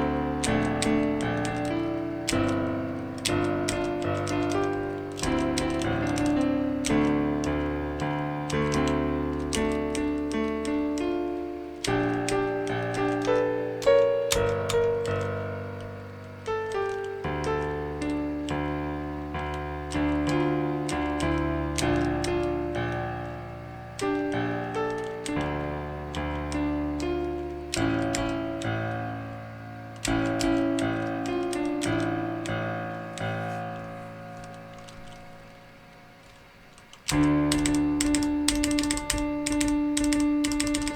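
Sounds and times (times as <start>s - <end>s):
computer keys clacking: 0.0s - 40.9s
virtual piano notes and chords: 0.0s - 40.9s.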